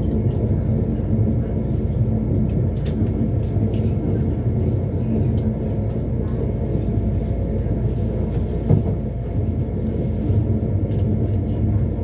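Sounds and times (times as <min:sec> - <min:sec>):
train wheels on rails: 0:00.0 - 0:11.8.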